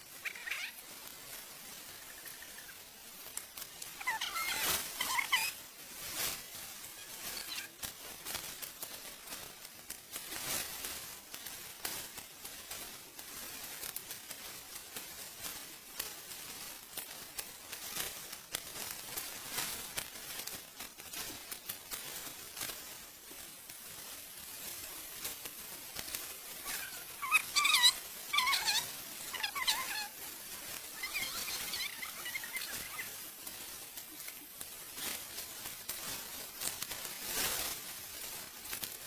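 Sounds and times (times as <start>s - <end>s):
dry straw rustling and crackling: 0.0s - 39.0s.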